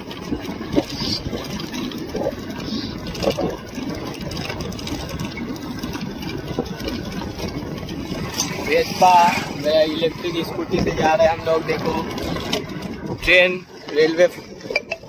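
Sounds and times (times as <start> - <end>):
road noise from scooter: 0.0 - 15.0
wind rushing over microphone: 0.0 - 15.0.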